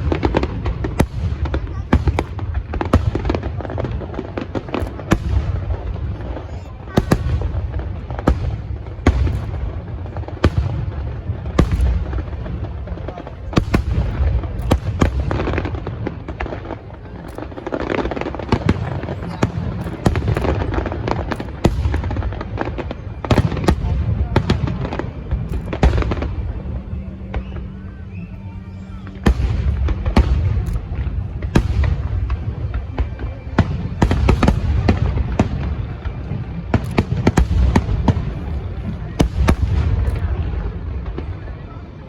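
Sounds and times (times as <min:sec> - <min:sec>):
fireworks bangs: 0:00.0 - 0:42.0
low rumble: 0:07.2 - 0:41.3.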